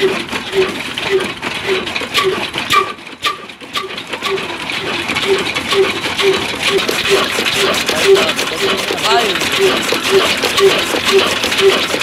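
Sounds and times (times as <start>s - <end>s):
chaff cutter chopping stalks: 0.0s - 12.0s
diesel engine running: 0.0s - 12.0s
sharp chopping clicks: 2.2s - 12.0s.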